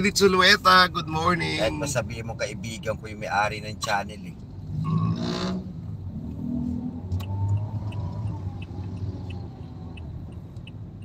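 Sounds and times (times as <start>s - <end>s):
car engine and road rumble: 0.0s - 11.0s
turn signal ticking: 0.0s - 11.0s.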